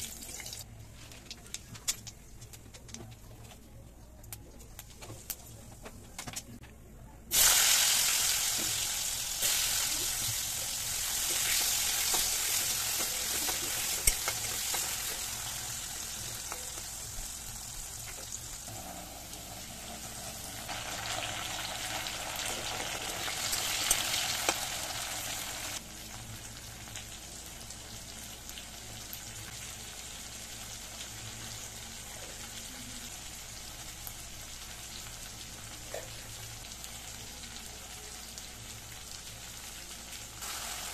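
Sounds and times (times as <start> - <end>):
potatoes sizzling in hot oil: 7.3 - 40.9.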